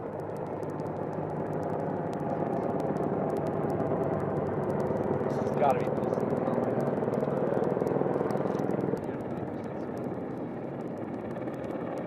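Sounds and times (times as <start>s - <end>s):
helicopter engines and rotor droning: 0.0s - 12.0s.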